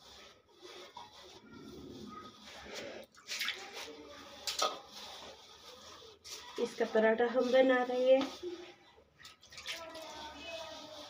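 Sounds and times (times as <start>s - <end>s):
hand mixing dough in metal bowl: 0.0s - 11.0s.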